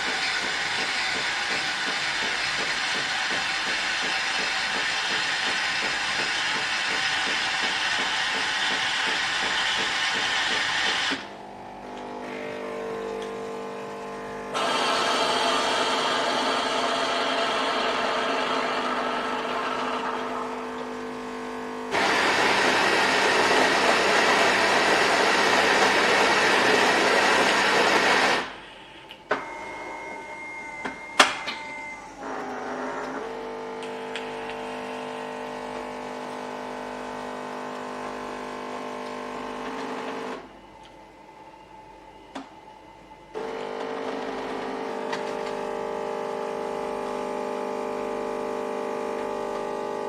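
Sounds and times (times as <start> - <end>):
coffee machine motor humming: 0.0 - 40.6, 43.3 - 50.0
coffee machine loud running: 0.0 - 40.7, 41.8 - 50.0.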